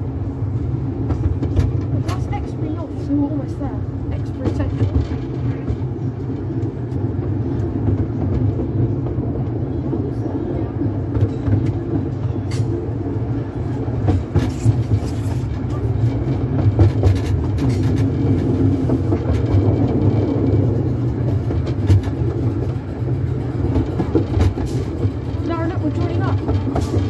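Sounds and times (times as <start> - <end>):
wheels rumbling on rails: 0.0 - 27.0.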